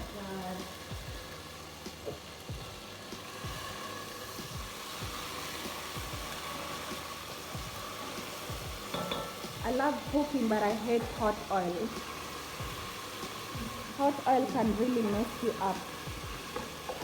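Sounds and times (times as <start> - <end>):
tomato paste sizzling in oil: 0.0 - 17.0.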